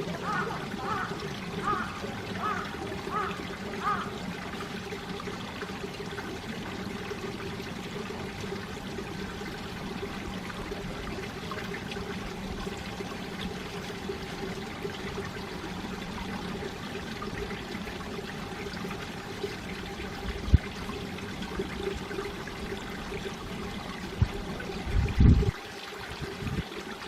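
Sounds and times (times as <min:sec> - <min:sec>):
stream trickling and gurgling: 0:00.0 - 0:27.0.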